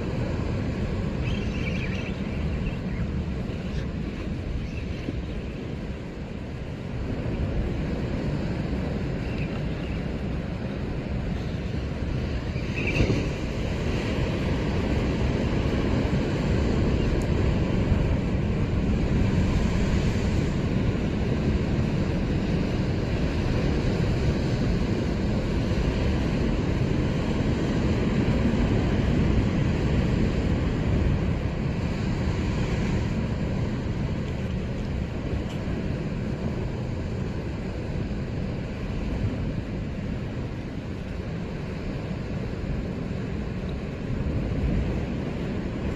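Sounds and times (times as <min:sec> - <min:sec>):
wave splash: 0:00.0 - 0:45.9
wind rumbling on microphone: 0:00.0 - 0:45.9.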